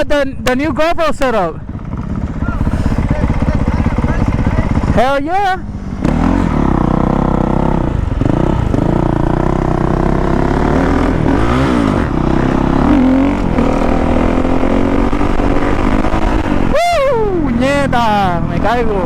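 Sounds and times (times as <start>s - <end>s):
dirt bike engine under throttle: 0.0s - 19.0s.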